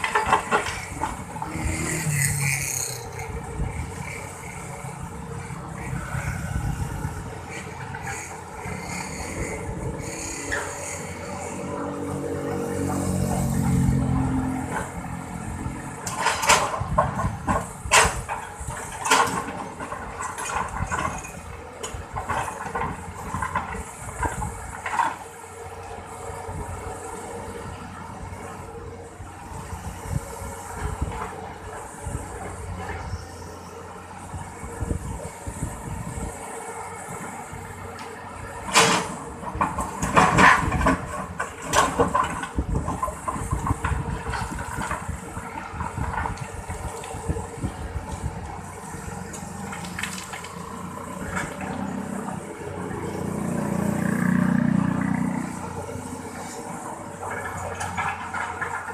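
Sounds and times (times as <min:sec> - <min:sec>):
excavator diesel engine running: 0:00.0 - 0:58.9
excavator knocking and scraping soil: 0:00.0 - 0:58.9.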